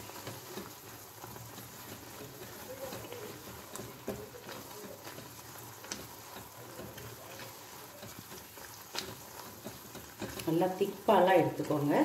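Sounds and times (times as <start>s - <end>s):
spatula clicking on pan: 0.0s - 11.7s
food simmering and bubbling: 0.0s - 12.0s
spatula mashing food in pan: 0.0s - 12.0s.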